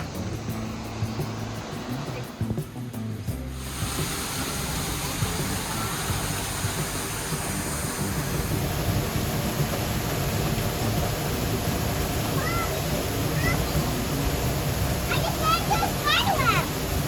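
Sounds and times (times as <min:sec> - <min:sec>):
waterfall rushing: 0:03.2 - 0:17.0.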